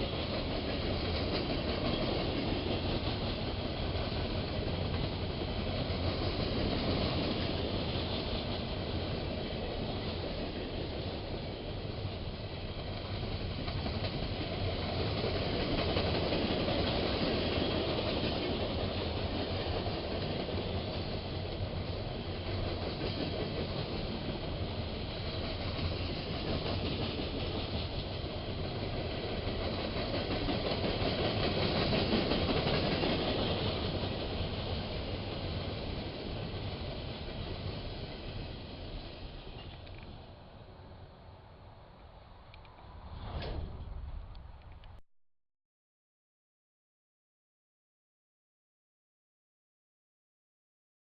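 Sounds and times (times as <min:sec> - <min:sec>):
train rolling past: 0:00.0 - 0:45.0.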